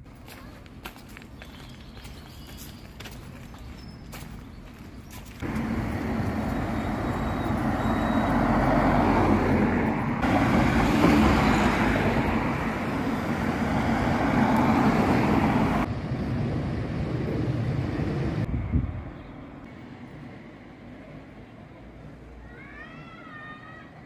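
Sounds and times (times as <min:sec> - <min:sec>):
cars passing on a busy street: 0:00.0 - 0:24.0.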